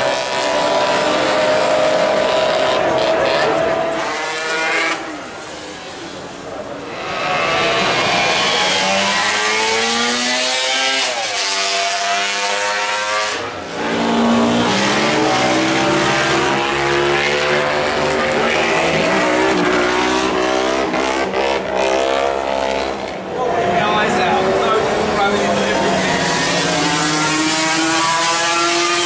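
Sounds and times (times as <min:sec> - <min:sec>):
racing motorcycles accelerating: 0:00.0 - 0:23.4, 0:24.1 - 0:29.0.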